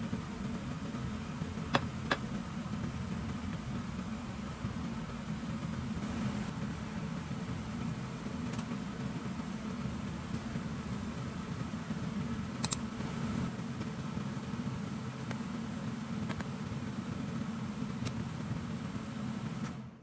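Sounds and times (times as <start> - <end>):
mechanical fan hum: 0.0 - 20.0.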